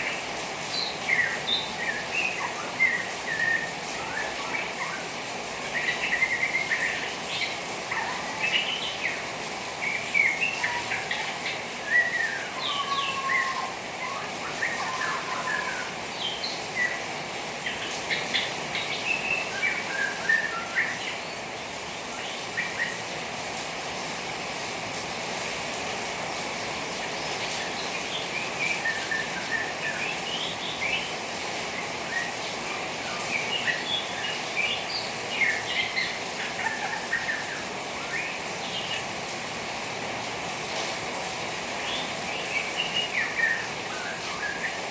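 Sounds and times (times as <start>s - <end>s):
bird chirping: 0.0s - 23.1s, 26.9s - 39.2s, 41.8s - 44.9s
rain hiss: 0.0s - 44.9s.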